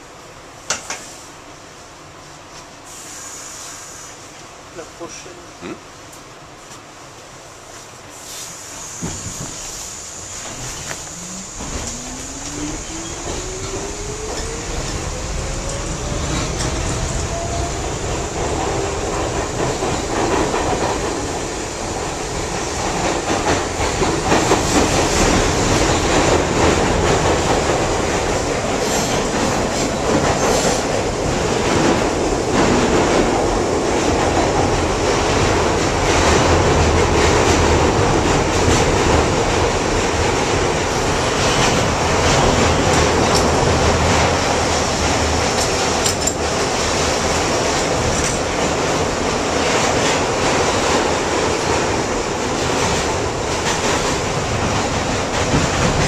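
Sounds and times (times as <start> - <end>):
subway train rumbling in tunnel: 0.0 - 56.0.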